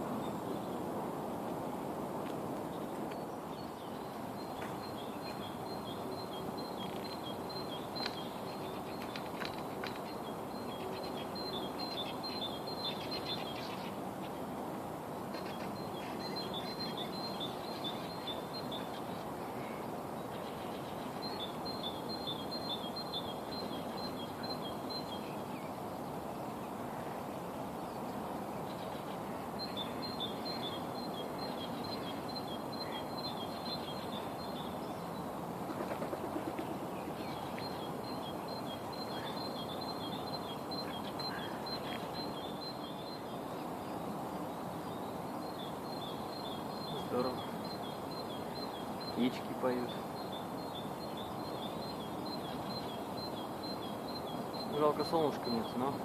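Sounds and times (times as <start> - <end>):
steady low background noise: 0.0 - 56.0.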